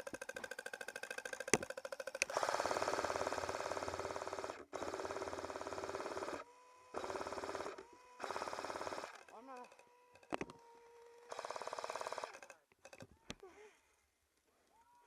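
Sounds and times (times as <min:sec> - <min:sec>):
airsoft machine gun firing: 0:00.0 - 0:10.4, 0:11.3 - 0:13.0.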